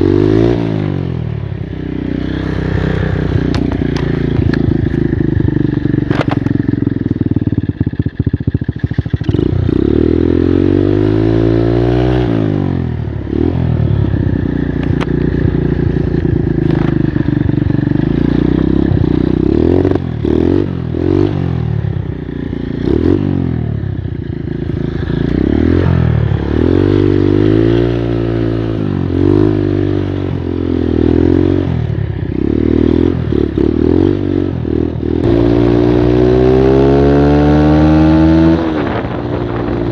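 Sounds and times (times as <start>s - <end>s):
moped engine revving: 0.0s - 39.9s.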